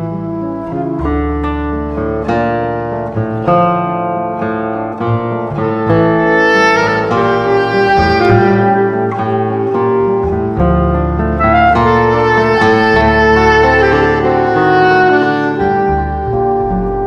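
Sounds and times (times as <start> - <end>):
classical guitar melody: 0.0 - 17.0
double bass notes: 0.0 - 17.0
saxophone: 0.0 - 17.0.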